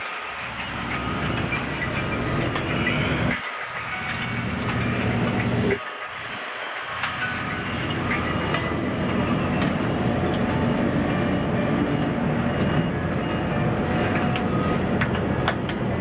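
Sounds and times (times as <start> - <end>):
gondola rumbling and rattling: 0.0 - 16.0.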